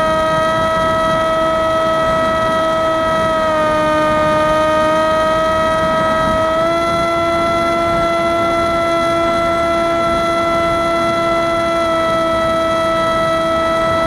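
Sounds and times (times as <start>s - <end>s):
electric motor propeller whine: 0.0s - 14.0s.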